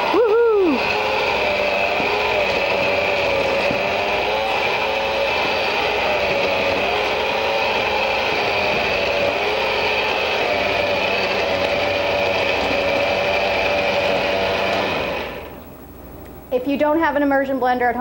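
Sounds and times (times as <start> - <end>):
immersion blender running: 0.0 - 15.6.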